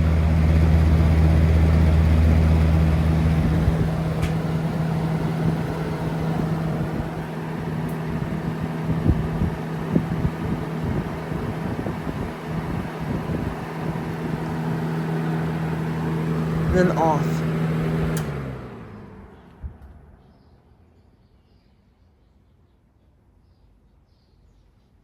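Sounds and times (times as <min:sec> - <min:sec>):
fan blades spinning down: 0:00.0 - 0:20.2
box fan running: 0:00.0 - 0:20.9.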